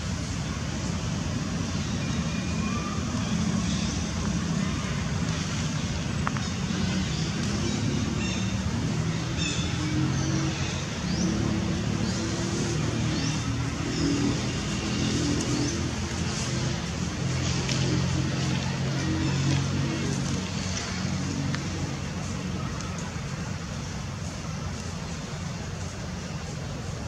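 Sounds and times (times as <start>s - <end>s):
low rumble of distant traffic: 0.0s - 27.0s.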